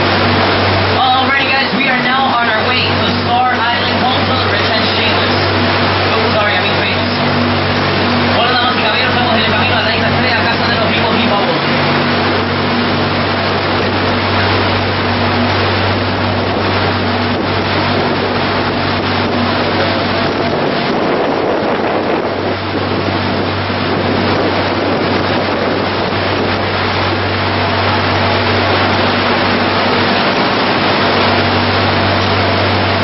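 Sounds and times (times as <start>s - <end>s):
boat engine humming: 0.0s - 33.0s
water rushing in wake: 0.0s - 33.0s
wind on microphone: 0.0s - 33.0s.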